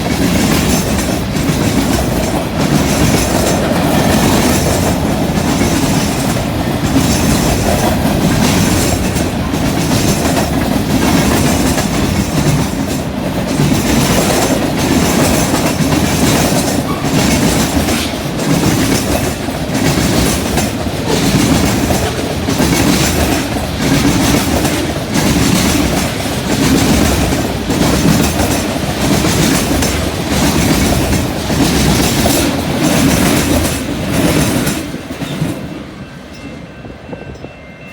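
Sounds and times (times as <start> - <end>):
train wheels clacking over rail joints: 0.0 - 35.8
freight train rolling past: 0.0 - 37.9.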